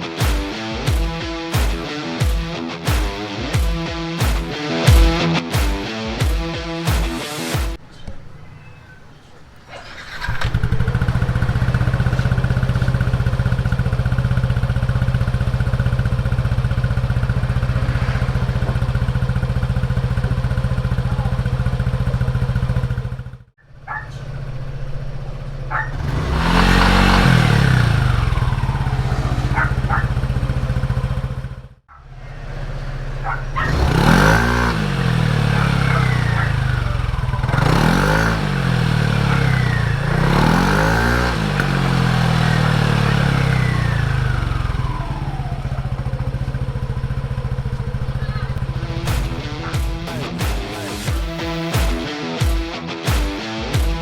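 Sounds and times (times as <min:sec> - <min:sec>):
scooter engine revving: 0:00.0 - 0:54.0
scooter engine idling: 0:07.8 - 0:51.9.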